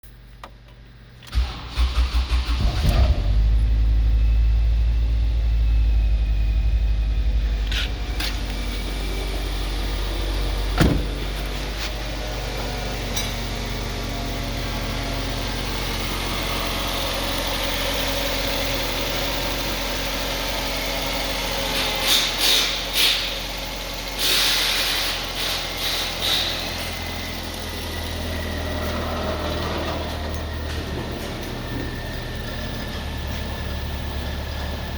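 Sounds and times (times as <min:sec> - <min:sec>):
car engine starting and idling: 0:00.4 - 0:34.9.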